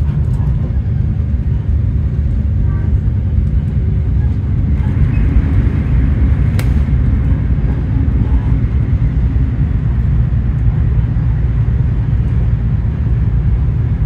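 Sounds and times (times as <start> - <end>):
diesel railcar rumbling: 0.0 - 14.0.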